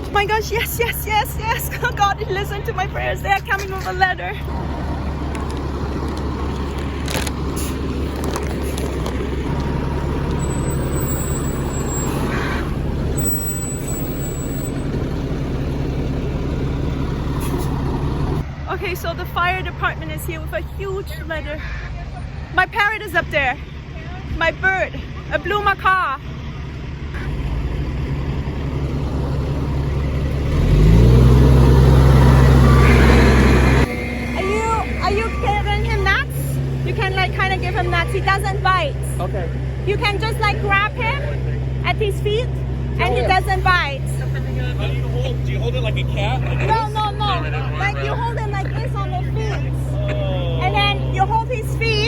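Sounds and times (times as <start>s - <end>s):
truck engine droning: 0.0s - 52.0s.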